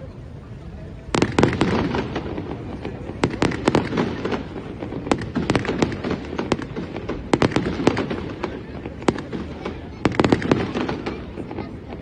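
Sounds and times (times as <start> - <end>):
low rumble of echoing reports: 0.0 - 12.0
fireworks bursting with sharp bangs: 1.0 - 12.0.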